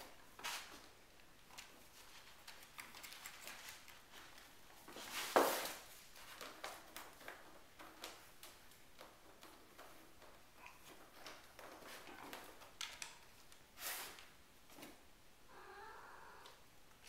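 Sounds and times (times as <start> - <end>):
kitten paws pattering on wooden floor: 0.1 - 15.0.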